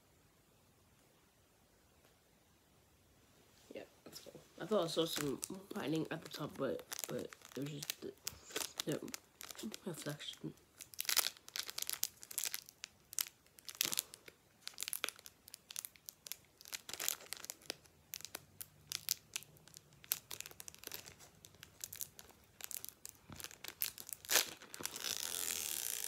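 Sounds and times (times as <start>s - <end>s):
foil wrapper crinkling and tearing: 4.7s - 26.0s.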